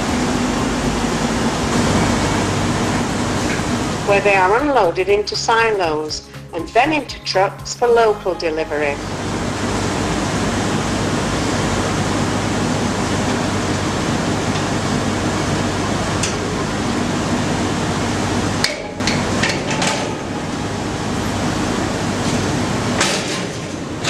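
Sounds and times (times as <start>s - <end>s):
industrial plant hum: 0.0s - 24.0s.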